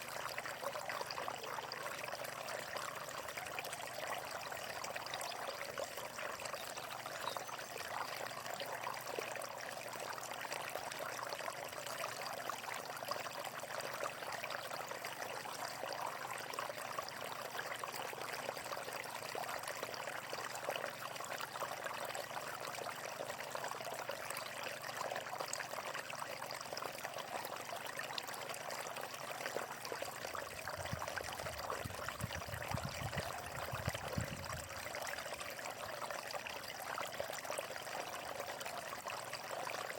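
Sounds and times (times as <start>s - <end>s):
water flowing and splashing: 0.0s - 39.9s.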